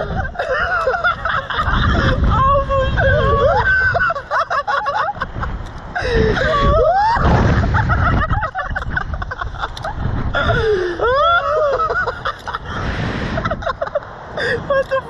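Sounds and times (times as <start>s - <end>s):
men screaming and laughing: 0.0s - 15.0s
wind buffeting microphone: 0.0s - 15.0s.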